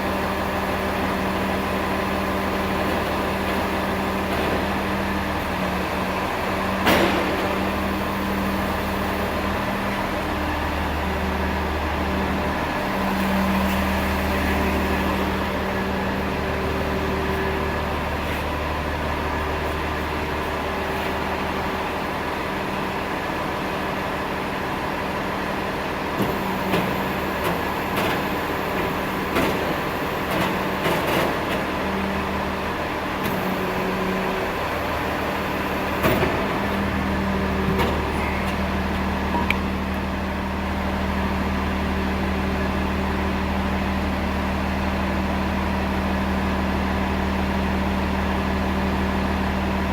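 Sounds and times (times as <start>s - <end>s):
truck engine running: 0.0s - 49.9s.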